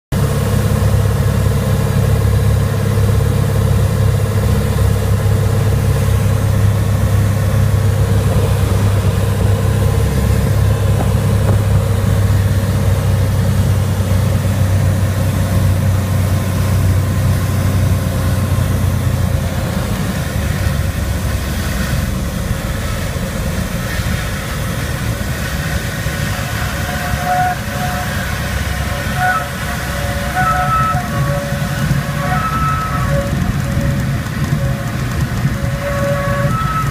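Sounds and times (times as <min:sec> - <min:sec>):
propeller plane engine drone: 0:00.1 - 0:36.9.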